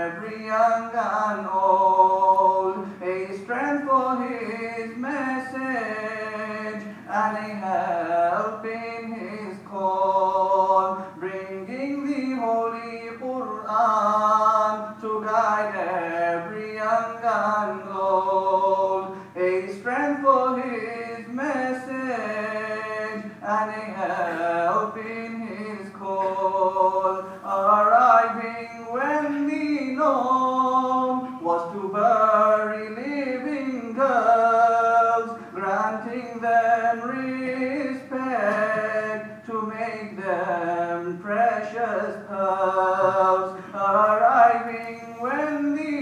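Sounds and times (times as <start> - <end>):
man singing slow melody: 0.0 - 46.0.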